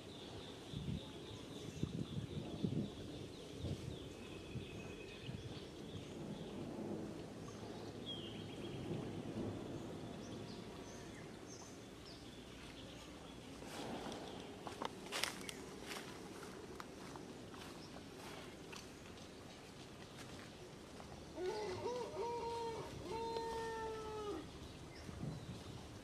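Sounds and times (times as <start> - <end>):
low uneven rumble: 0.3 - 26.0.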